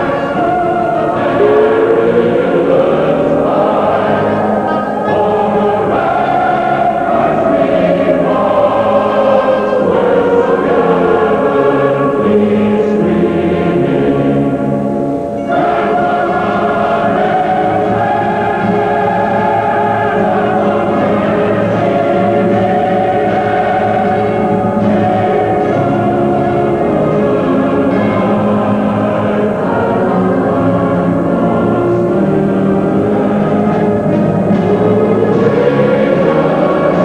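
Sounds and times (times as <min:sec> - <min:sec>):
choir singing sustained chords: 0:00.0 - 0:37.0.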